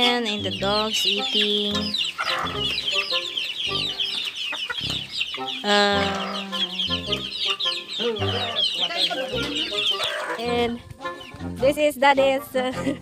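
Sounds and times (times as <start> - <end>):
high-pitched chirping: 0.0 - 11.7
chickens clucking: 0.0 - 13.0.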